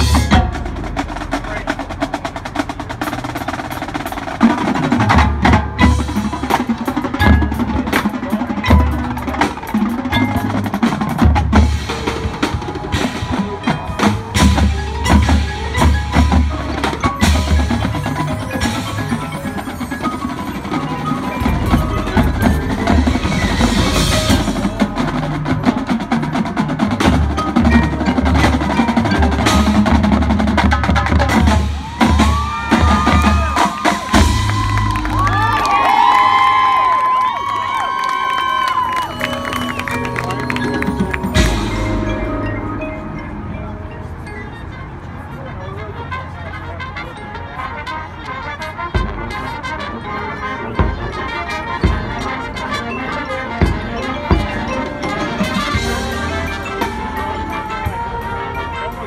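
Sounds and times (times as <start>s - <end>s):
mallet percussion: 0.0s - 36.7s, 37.5s - 45.6s, 50.5s - 59.0s
drums: 0.0s - 45.3s, 47.8s - 59.0s
marching band playing: 0.0s - 59.0s.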